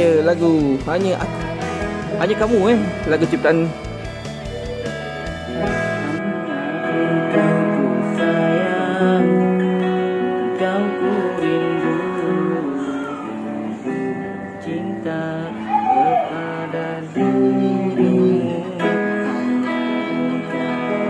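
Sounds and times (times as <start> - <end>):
electric guitar lead melody: 0.0 - 21.0.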